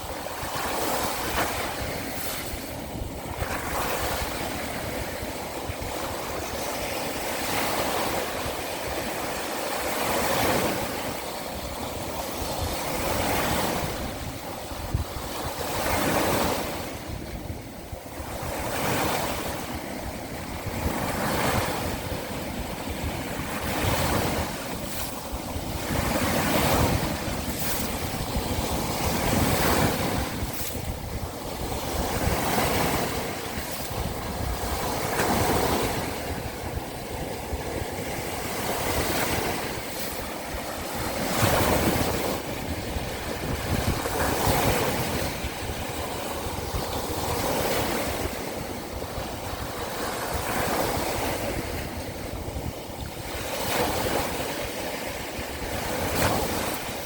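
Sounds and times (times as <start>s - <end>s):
waves breaking on shore: 0.0s - 57.0s
wind buffeting microphone: 0.0s - 57.0s.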